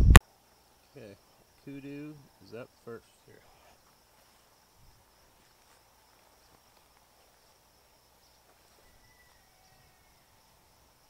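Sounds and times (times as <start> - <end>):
high-pitched insect trill: 0.2 - 11.0.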